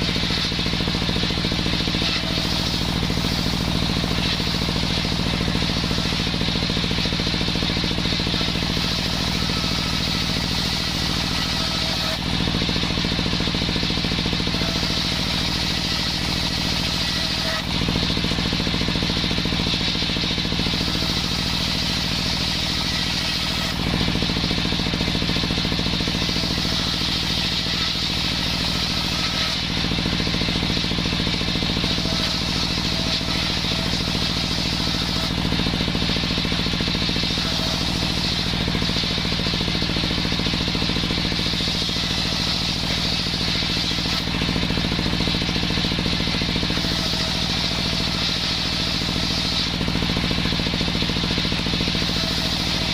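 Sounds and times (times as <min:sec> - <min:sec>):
circular saw engine running: 0:00.0 - 0:52.9.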